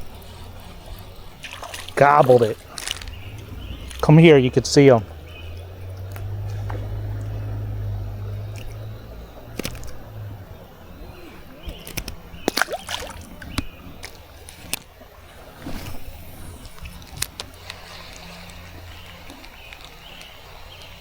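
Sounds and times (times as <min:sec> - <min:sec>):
low rumble: 0:00.0 - 0:19.6
creek water trickling: 0:00.0 - 0:21.0.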